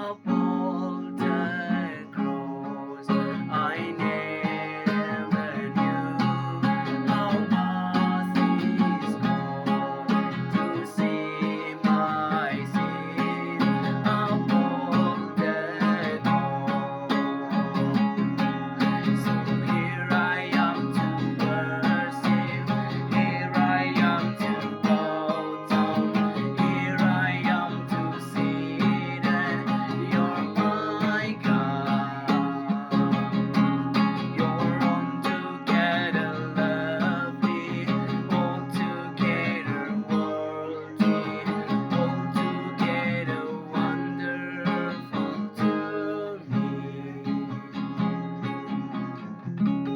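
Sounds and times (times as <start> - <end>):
strummed acoustic guitar music: 0.0 - 49.9.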